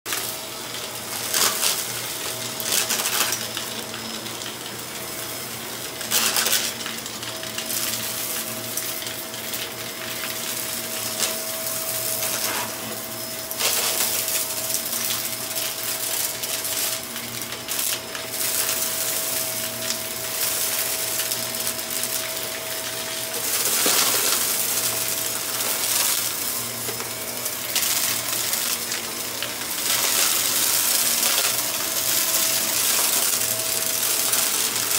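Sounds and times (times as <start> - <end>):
debris crackling in vacuum: 0.1 - 34.9
vacuum cleaner humming: 0.1 - 34.9.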